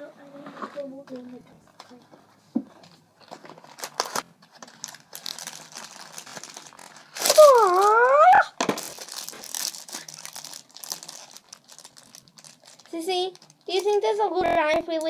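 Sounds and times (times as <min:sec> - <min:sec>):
plastic packaging crinkling: 0:02.8 - 0:15.0.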